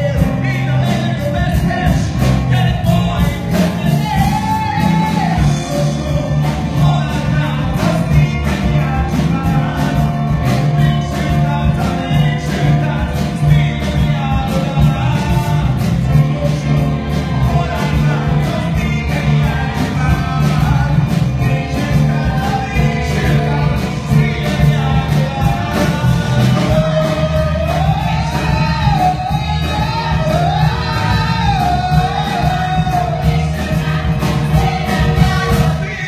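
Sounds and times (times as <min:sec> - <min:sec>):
band playing: 0:00.0 - 0:36.0
bass line: 0:00.0 - 0:36.0
drum beats: 0:00.0 - 0:36.0
voices singing: 0:00.0 - 0:36.0.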